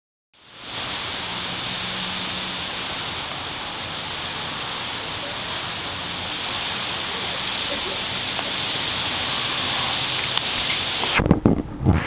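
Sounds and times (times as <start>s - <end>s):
windstorm hiss: 0.4s - 12.0s.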